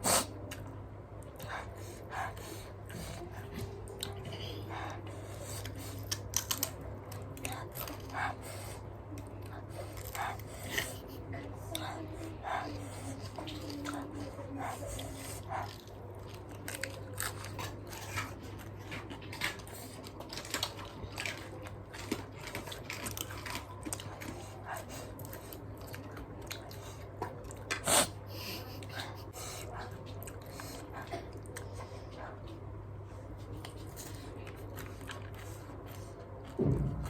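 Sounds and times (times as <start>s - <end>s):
chewing and crunching cabbage: 0.0s - 37.0s
steady low hum: 0.0s - 37.0s.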